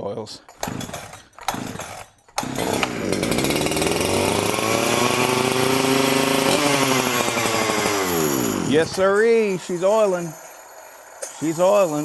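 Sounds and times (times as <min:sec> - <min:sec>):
two-stroke chainsaw revving: 0:00.6 - 0:12.0.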